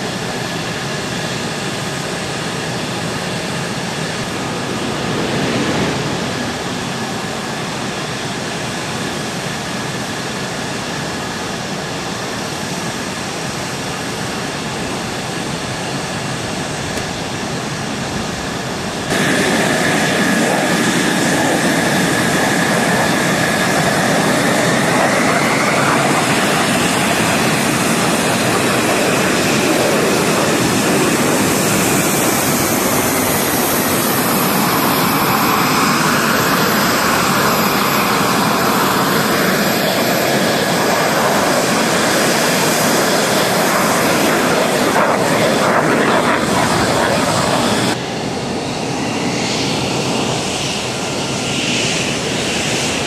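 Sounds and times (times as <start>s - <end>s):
jet engines rumbling with high whine: 0.0s - 53.0s.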